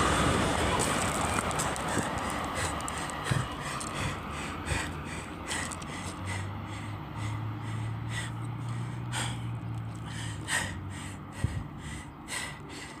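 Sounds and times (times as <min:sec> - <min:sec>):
train engine hum: 0:00.0 - 0:13.0
person gasping for breath: 0:01.8 - 0:13.0.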